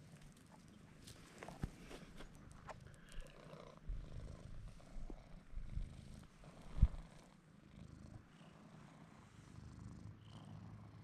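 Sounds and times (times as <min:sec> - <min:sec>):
cat purring: 0:00.1 - 0:11.0.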